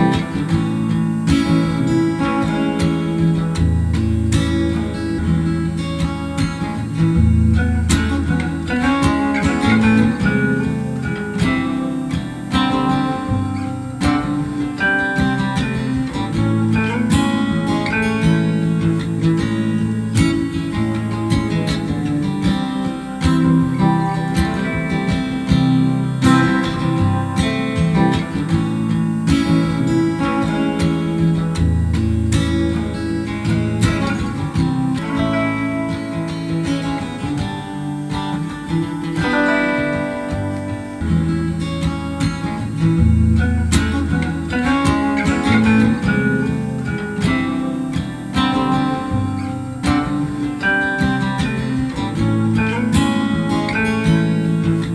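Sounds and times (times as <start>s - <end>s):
acoustic guitar music: 0.0s - 54.9s.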